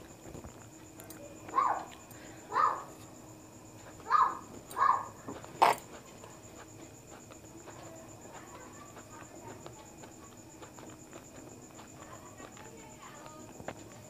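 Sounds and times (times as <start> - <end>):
faint chewing: 0.0 - 2.4, 3.7 - 14.0.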